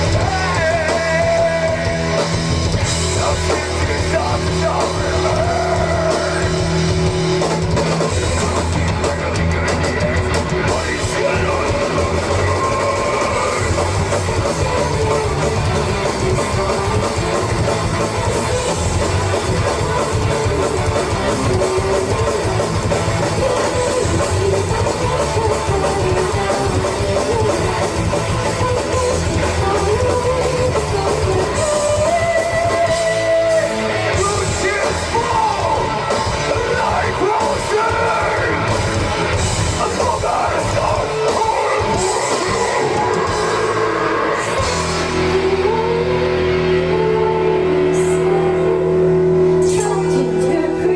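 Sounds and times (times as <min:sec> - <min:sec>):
person singing: 0:00.0 - 0:07.0, 0:08.0 - 0:38.7, 0:39.8 - 0:50.9
electric guitar: 0:00.0 - 0:50.9
rock band playing live: 0:00.0 - 0:50.9.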